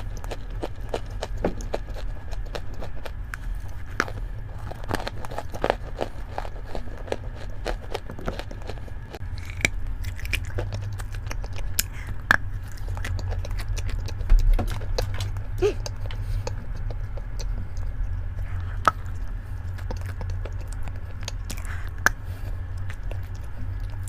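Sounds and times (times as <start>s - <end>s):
low hum: 0.0s - 24.0s
person biting and chewing: 0.0s - 24.0s.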